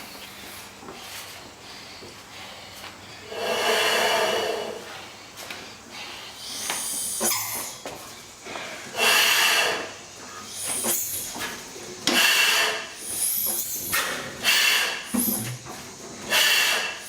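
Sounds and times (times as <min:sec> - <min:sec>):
gas engine hissing puffs: 0:00.3 - 0:17.0.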